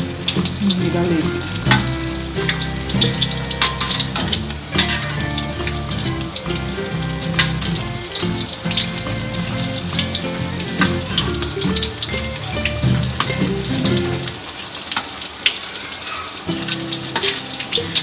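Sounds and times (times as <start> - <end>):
background music: 0.0 - 14.5, 16.5 - 18.0
food sizzling in hot oil: 0.0 - 18.0.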